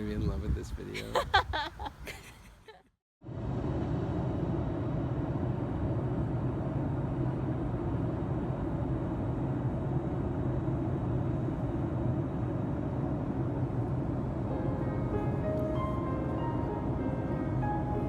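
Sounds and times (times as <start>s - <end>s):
moving vehicle rumble: 3.3s - 18.0s.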